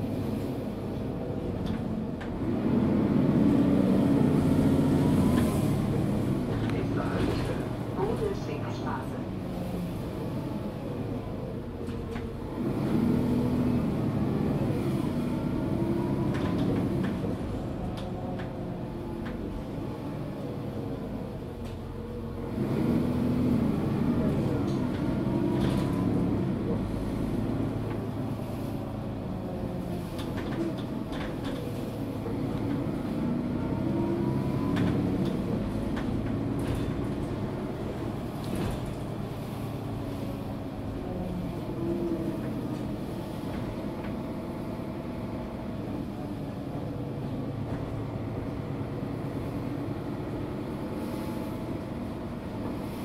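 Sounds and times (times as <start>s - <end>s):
bus diesel engine accelerating: 0.0s - 53.0s.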